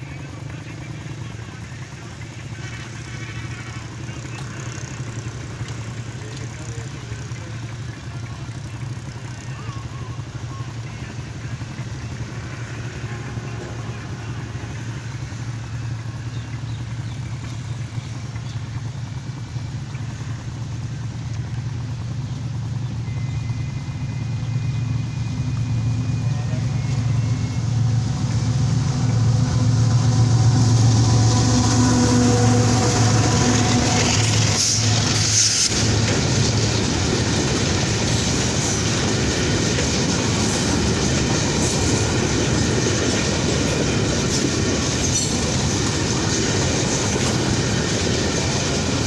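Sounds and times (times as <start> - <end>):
diesel locomotive engine drone: 0.0 - 49.0.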